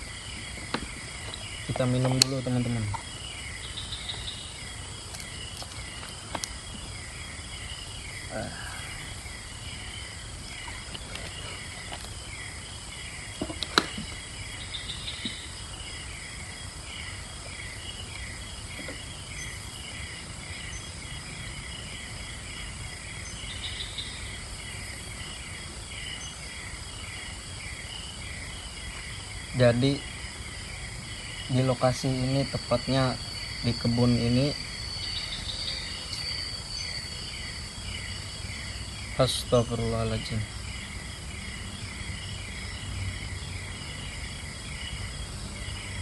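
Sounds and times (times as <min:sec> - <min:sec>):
insects trilling and buzzing: 0:00.0 - 0:46.0.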